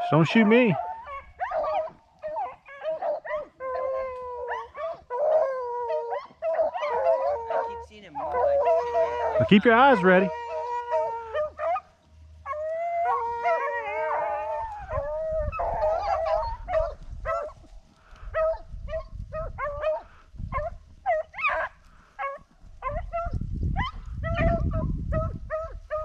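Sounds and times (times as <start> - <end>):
hounds baying: 0.0 - 26.0.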